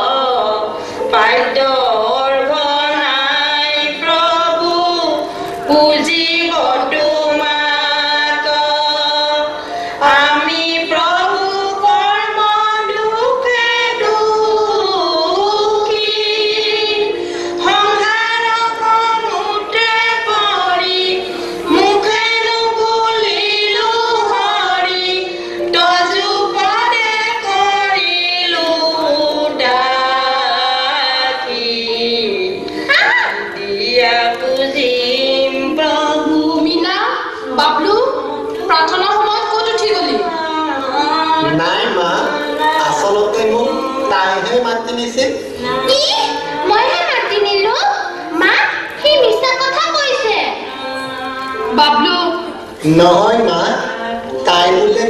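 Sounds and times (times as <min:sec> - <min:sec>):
high voice singing: 0:00.0 - 0:49.6, 0:50.3 - 0:55.0
musical accompaniment: 0:00.0 - 0:55.0.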